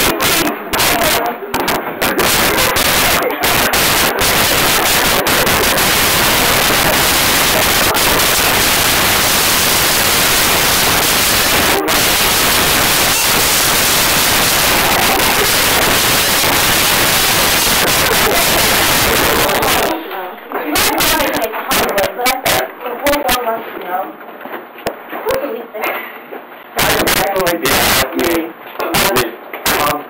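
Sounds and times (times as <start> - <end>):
loud static-like noise: 0.0 - 30.0.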